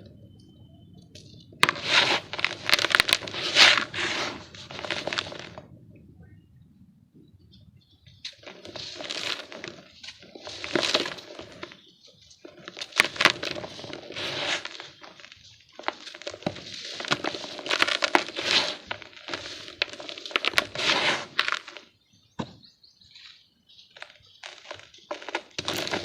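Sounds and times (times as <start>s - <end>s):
dirt lumps crunching by hand: 1.0s - 5.8s, 8.1s - 26.0s.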